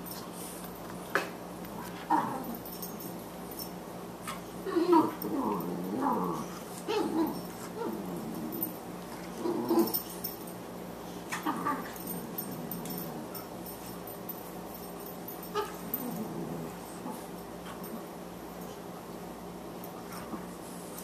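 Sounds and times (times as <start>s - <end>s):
dogs play growling and whining: 0.0s - 21.0s.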